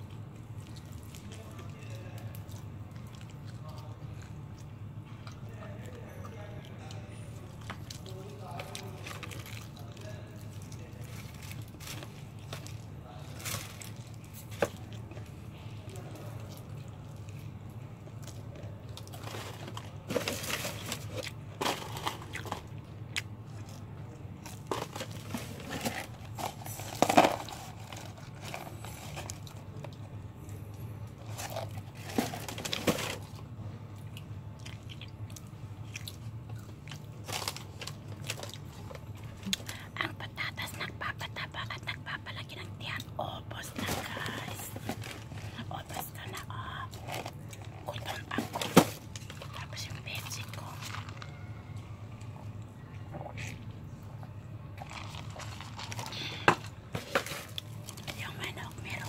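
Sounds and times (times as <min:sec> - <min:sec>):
crunching and chewing fried chicken: 0:00.0 - 0:59.0
low steady hum: 0:00.0 - 0:59.0.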